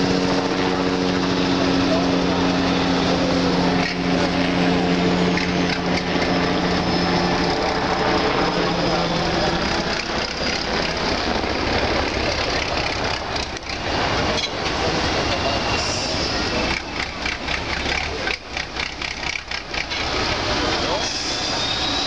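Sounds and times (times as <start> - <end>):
constant noise: 0.0 - 22.0
truck engine running: 0.0 - 22.0.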